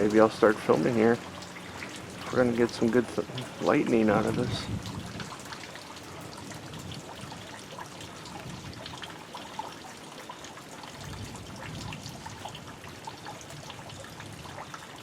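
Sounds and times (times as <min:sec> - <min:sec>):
light rain dripping: 0:00.0 - 0:15.0.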